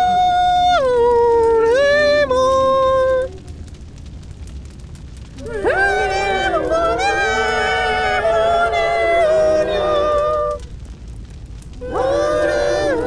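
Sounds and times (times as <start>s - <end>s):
faint crackling: 0.0s - 13.0s.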